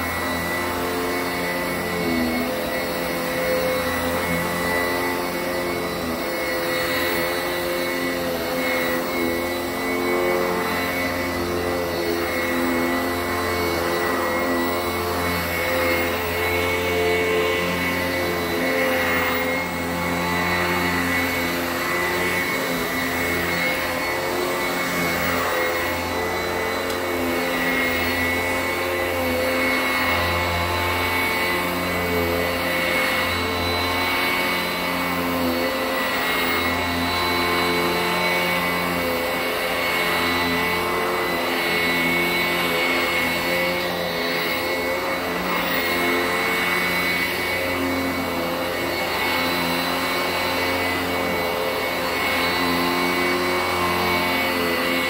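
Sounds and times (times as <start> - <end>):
upright vacuum on carpet: 0.0 - 55.0.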